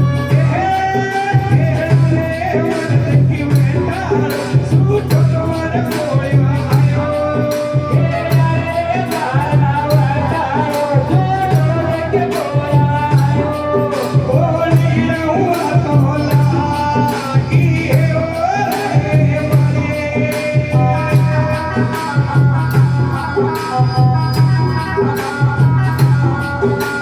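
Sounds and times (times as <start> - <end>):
devotional folk melody: 0.0 - 27.0
steady drum beat: 0.0 - 27.0.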